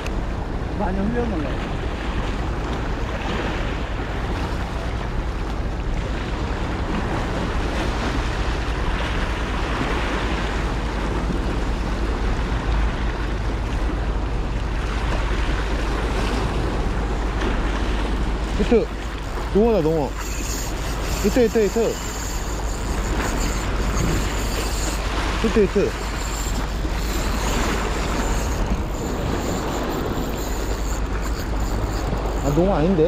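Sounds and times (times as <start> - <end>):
wind on microphone: 0.0 - 33.0.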